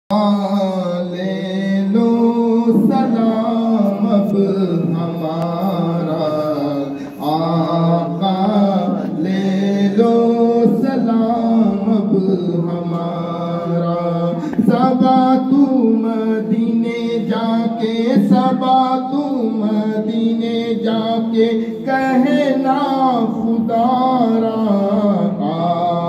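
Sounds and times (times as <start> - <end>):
man chanting devotional song: 0.1 - 26.0.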